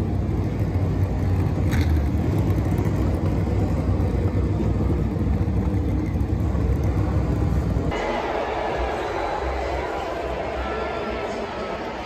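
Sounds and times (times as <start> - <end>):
race car engines rumbling: 0.0 - 12.0.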